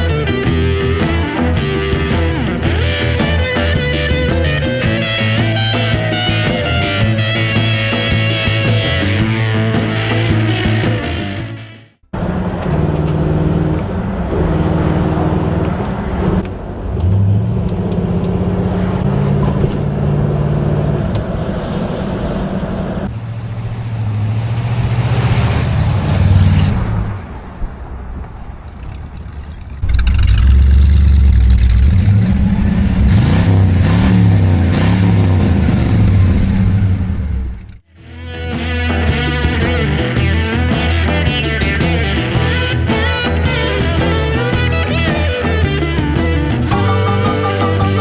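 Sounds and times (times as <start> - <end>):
car engines idling and revving: 0.0 - 48.0.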